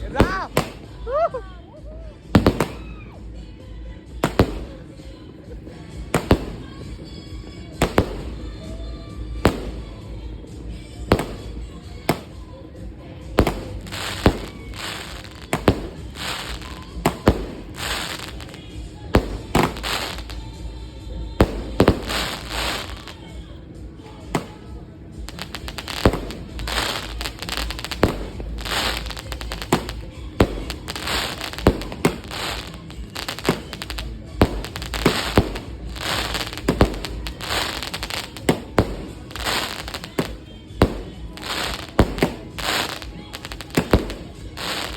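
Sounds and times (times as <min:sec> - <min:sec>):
firework shells bursting: 0:00.0 - 0:01.0, 0:02.3 - 0:02.8, 0:04.2 - 0:05.1, 0:05.9 - 0:10.2, 0:11.0 - 0:12.5, 0:13.2 - 0:20.6, 0:21.4 - 0:23.2, 0:24.2 - 0:24.7, 0:25.3 - 0:44.9
firework crackling: 0:00.0 - 0:01.3, 0:02.2 - 0:03.2, 0:04.1 - 0:44.9.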